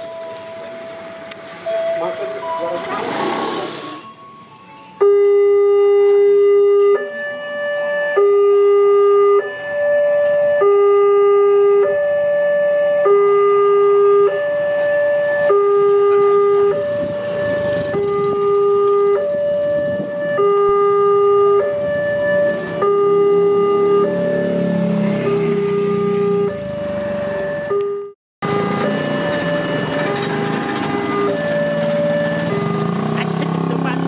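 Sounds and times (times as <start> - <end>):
level crossing two-tone alarm: 0.0 - 34.0.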